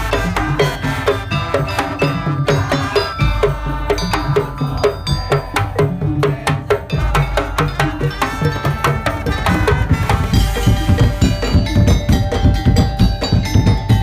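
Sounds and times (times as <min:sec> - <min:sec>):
pitched melody: 0:00.0 - 0:14.0
wooden slit drums and drums: 0:00.0 - 0:14.0.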